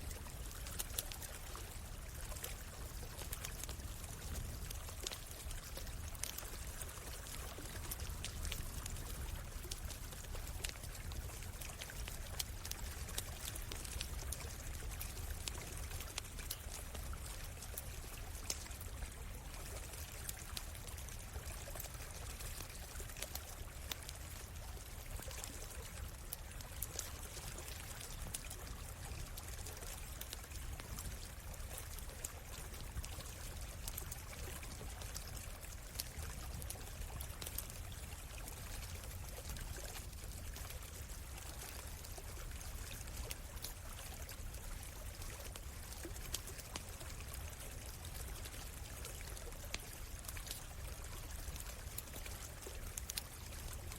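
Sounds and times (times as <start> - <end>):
stream water flowing over rocks: 0.0 - 53.9
campfire crackling: 0.1 - 53.9.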